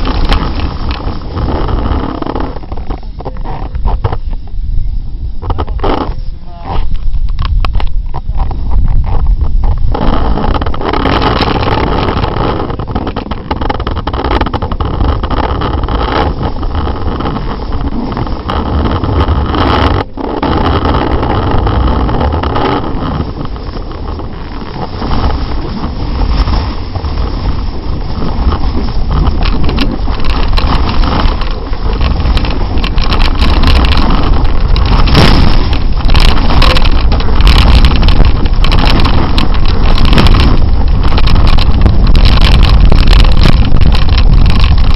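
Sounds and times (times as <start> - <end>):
snowboard scraping over snow: 0.0 - 44.9
wind buffeting microphone: 0.0 - 44.9.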